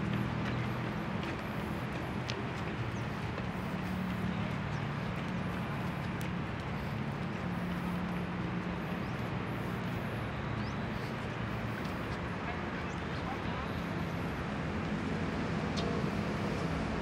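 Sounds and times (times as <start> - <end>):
urban background noise: 0.0 - 17.0.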